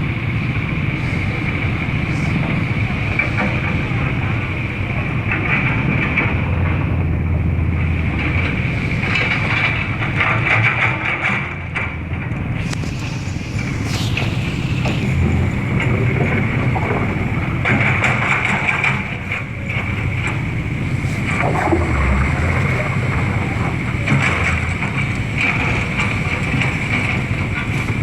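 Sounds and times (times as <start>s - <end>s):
large engine running: 0.0s - 28.0s.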